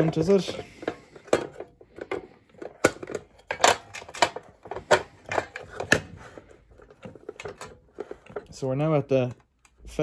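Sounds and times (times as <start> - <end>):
plastic and metal parts clicking: 0.0 - 9.8.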